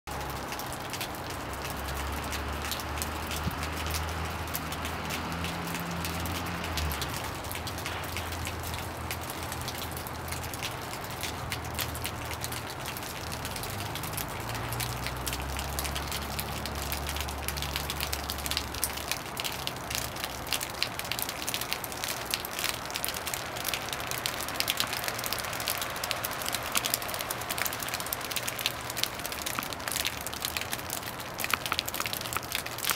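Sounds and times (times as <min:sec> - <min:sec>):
rain pattering: 0:00.1 - 0:32.9.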